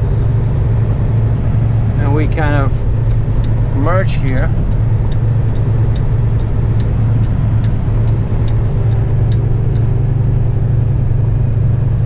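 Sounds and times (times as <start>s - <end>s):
truck engine running: 0.0s - 12.0s
turn signal ticking: 0.0s - 12.0s.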